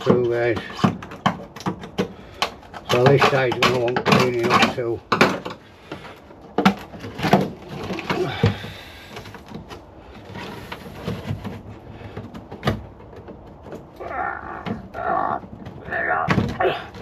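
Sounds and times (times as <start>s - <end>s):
parts knocking and scraping: 0.0s - 17.0s.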